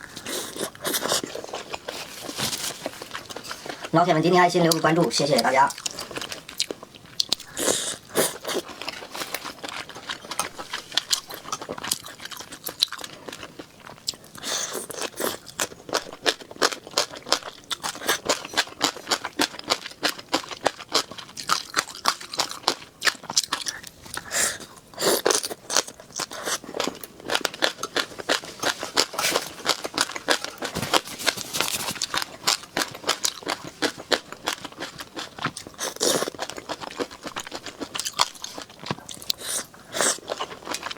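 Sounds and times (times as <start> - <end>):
person chewing crunchy food: 0.0 - 4.0, 4.7 - 40.9.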